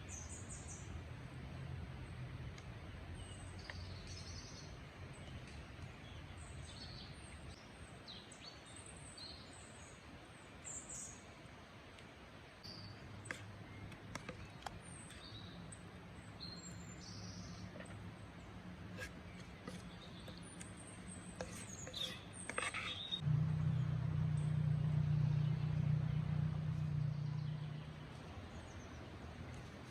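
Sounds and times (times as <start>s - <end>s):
small birds chirping: 0.0s - 1.0s, 2.0s - 11.4s, 12.6s - 29.9s.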